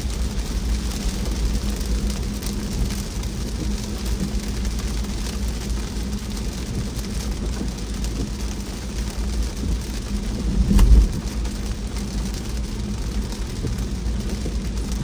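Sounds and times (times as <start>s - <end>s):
car driving on wet road: 0.0s - 15.0s
rain hissing: 0.0s - 15.0s.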